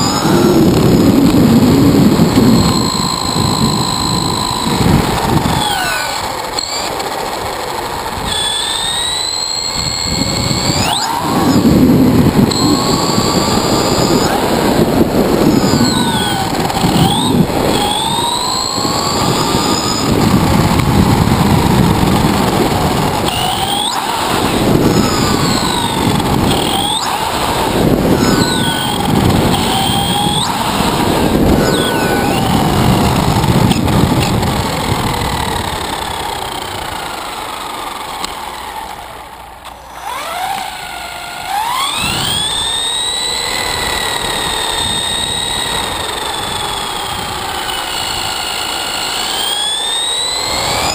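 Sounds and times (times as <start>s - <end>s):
electric motor whining: 0.0s - 50.9s
tyres rumbling on pavement: 0.0s - 50.9s.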